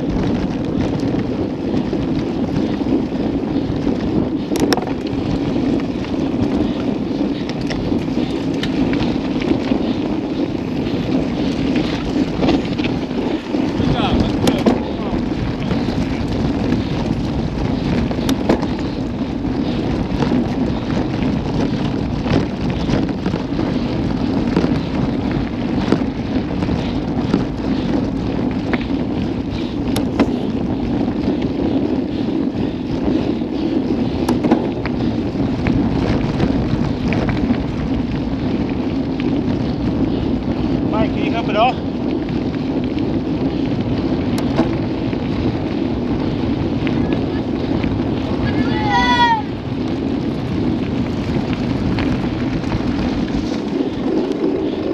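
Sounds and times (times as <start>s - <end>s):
bike clicks and rattles: 0.0s - 54.9s
tyres rumbling on gravel: 0.0s - 54.9s
wind on microphone: 0.0s - 54.9s.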